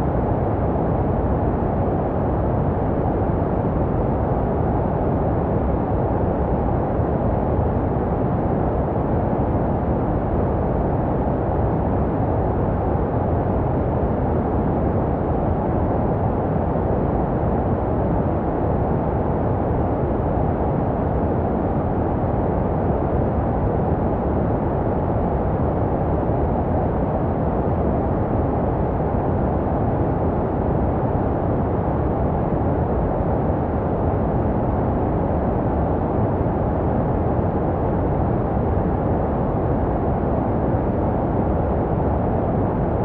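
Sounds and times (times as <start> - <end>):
muffled white noise hiss: 0.0 - 43.0.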